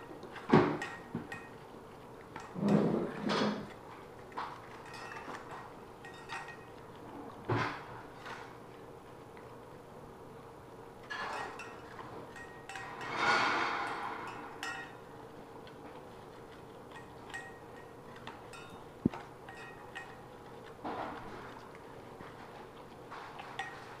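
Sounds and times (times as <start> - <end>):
teeth clinking on metal bowls: 0.0 - 8.6, 11.0 - 24.0
dogs licking and gnawing: 0.0 - 24.0.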